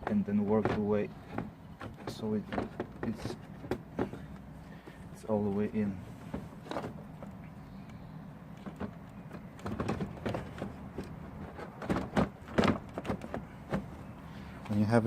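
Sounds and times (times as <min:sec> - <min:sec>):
thunks: 0:00.0 - 0:07.8, 0:08.6 - 0:14.8
plastic clicks knocks and scrapes: 0:00.0 - 0:14.1.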